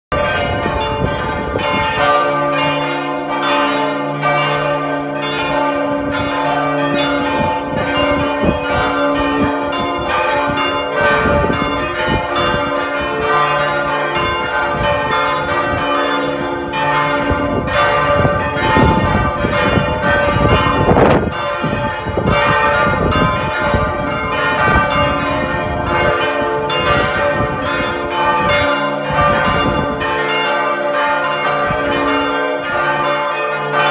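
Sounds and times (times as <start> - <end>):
church bells ringing in a peal: 0.1 - 33.9.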